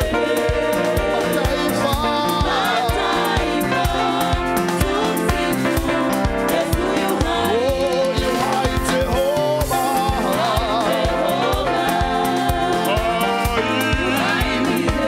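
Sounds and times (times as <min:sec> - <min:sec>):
group of singers: 0:00.0 - 0:15.0
keyboard accompaniment: 0:00.0 - 0:15.0
steady beat: 0:00.0 - 0:15.0.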